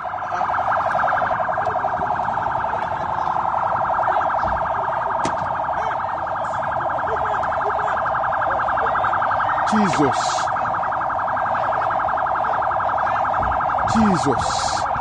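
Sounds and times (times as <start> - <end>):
electronic alarm pulsing tone: 0.0 - 15.0.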